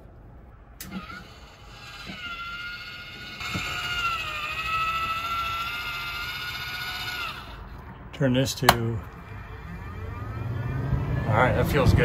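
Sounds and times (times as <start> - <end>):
fan motor whining: 0.7 - 12.0.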